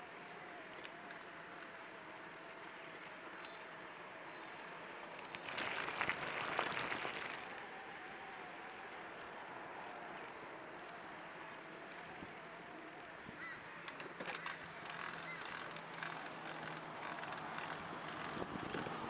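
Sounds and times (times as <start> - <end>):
tyre and drivetrain noise: 0.0 - 19.0.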